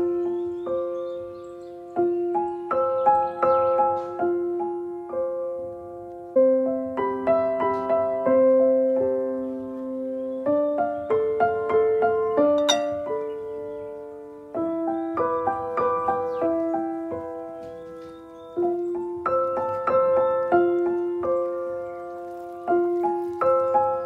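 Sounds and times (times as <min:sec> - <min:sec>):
calm piano music: 0:00.0 - 0:24.0.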